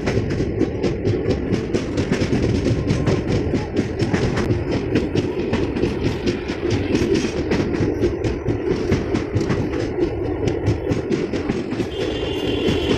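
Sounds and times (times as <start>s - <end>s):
train rumble inside coach: 0.0s - 12.9s.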